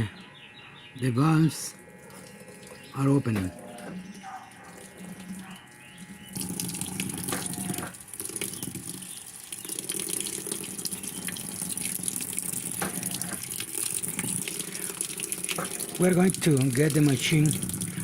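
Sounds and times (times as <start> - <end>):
water running into washer tub: 2.0 - 18.0.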